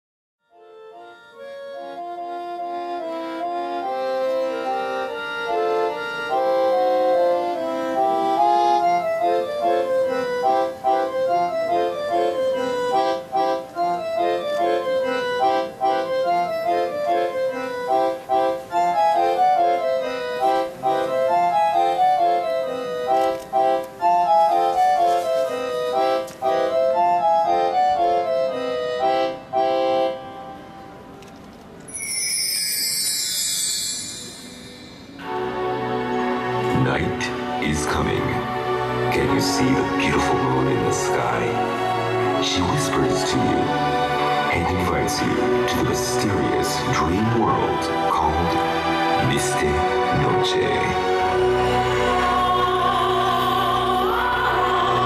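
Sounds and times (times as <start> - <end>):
organ-like keyboard melody: 0.4 - 55.0.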